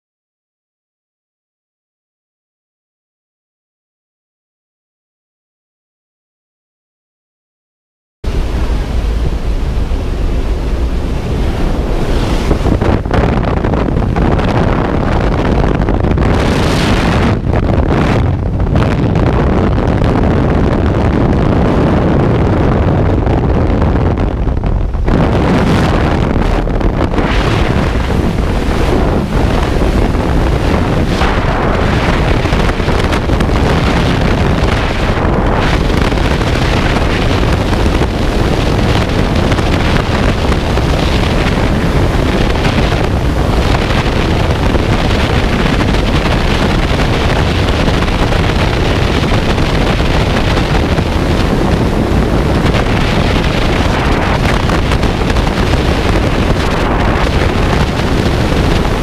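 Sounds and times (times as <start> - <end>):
freefall wind rushing: 8.2 - 59.0.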